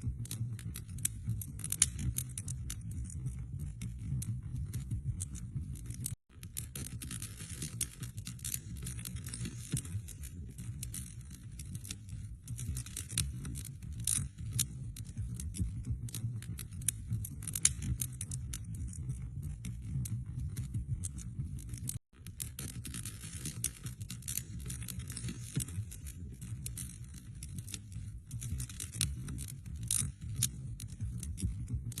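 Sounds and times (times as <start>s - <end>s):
wood fire crackling: 0.2s - 32.0s.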